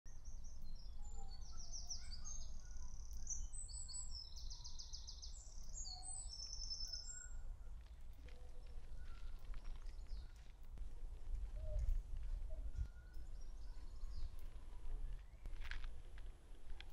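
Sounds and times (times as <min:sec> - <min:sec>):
songbirds singing: 0:00.1 - 0:16.9.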